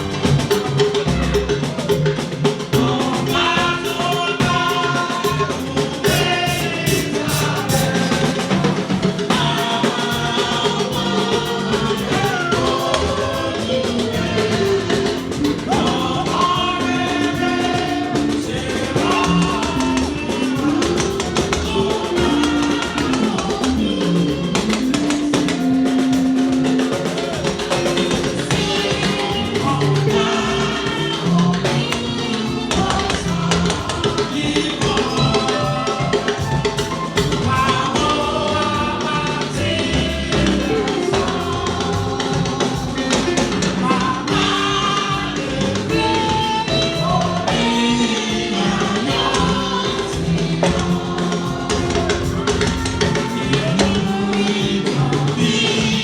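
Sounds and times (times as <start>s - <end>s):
choir singing a hymn: 0.0s - 56.0s
drum kit and percussion: 0.0s - 56.0s.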